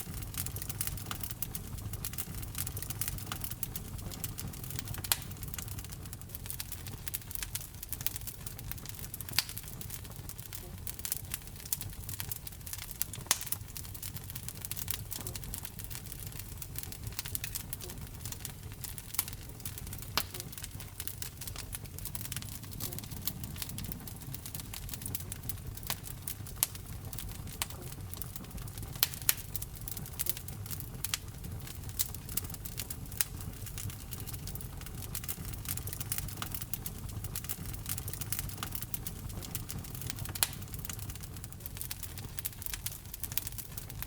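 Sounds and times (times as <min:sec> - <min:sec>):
fire crackling and popping: 0:00.0 - 0:44.0
fire flames rumbling: 0:00.0 - 0:44.0.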